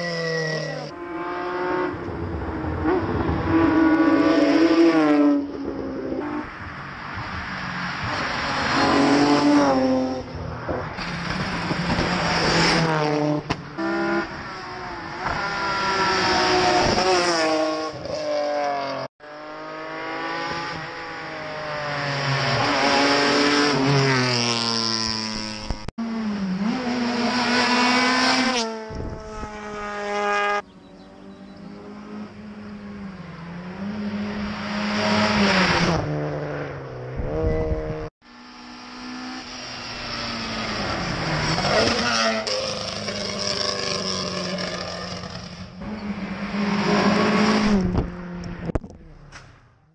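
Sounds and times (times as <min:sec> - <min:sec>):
rally car engines revving: 0:00.0 - 0:49.4.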